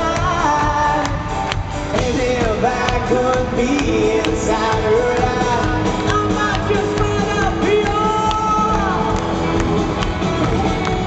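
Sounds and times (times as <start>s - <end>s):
man singing lead: 0.0s - 9.6s
live country rock band: 0.0s - 11.0s.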